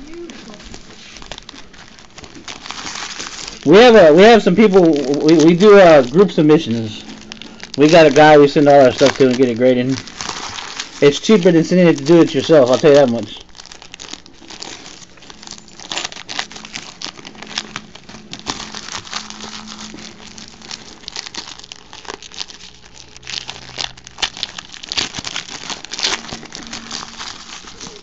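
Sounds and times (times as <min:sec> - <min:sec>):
foil wrapper crinkling: 0:00.0 - 0:28.0.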